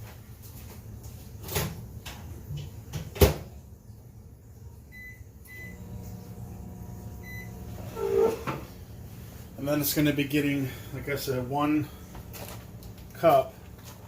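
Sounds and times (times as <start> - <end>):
microwave humming: 1.4 - 14.0.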